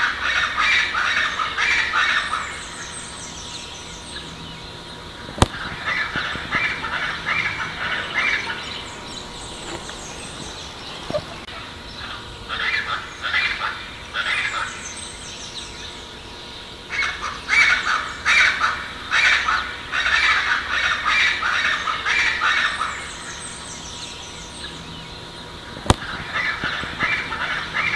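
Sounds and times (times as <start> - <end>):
bird's harsh repeated call: 0.0 - 27.9.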